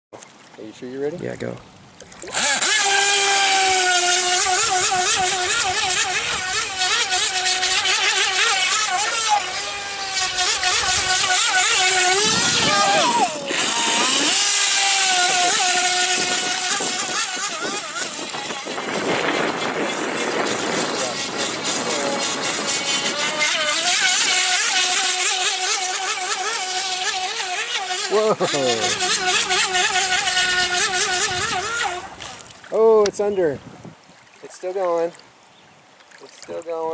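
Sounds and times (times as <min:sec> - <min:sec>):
toy boat motor whining: 0:02.2 - 0:32.5.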